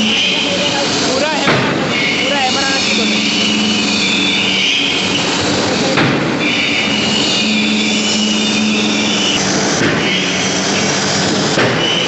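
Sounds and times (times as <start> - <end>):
high machinery squeal: 0.0 - 12.0
machinery humming: 0.0 - 12.0.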